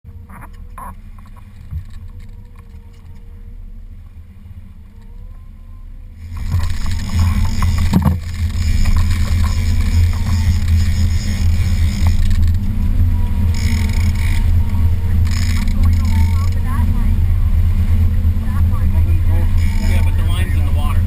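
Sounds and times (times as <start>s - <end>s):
motorboat engine running: 0.1s - 21.0s.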